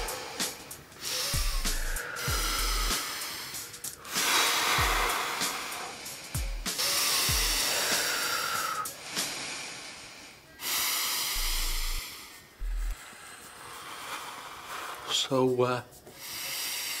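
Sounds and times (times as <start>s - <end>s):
people breathing noisily: 0.0s - 17.0s.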